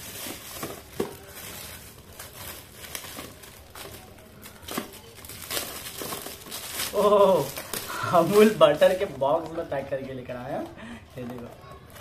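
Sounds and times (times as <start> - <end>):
foil gift wrap tearing and crinkling: 0.0 - 12.0.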